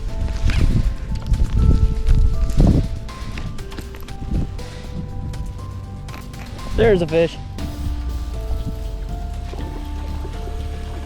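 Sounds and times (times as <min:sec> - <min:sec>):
melody of held notes: 0:00.0 - 0:11.0
steady low rumble: 0:00.0 - 0:11.0.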